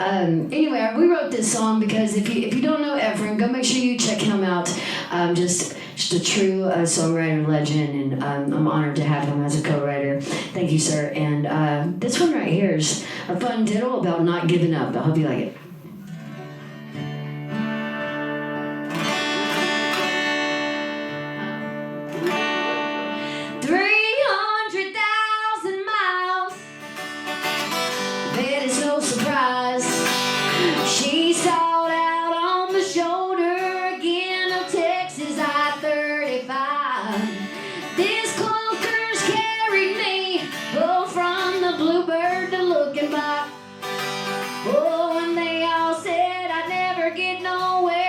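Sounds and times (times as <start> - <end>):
woman singing: 0.0 - 15.6, 23.4 - 26.6, 28.2 - 48.0
strummed acoustic guitar: 0.0 - 48.0.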